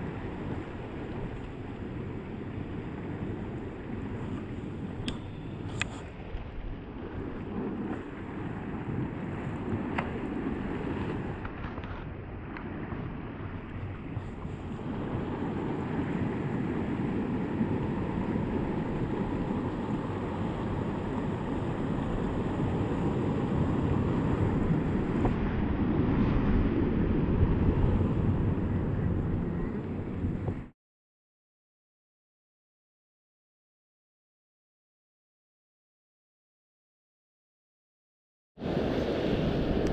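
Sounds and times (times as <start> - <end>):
ocean surf rushing: 0.0 - 30.7, 38.6 - 39.9
wind buffeting microphone: 0.0 - 30.7, 38.6 - 39.9.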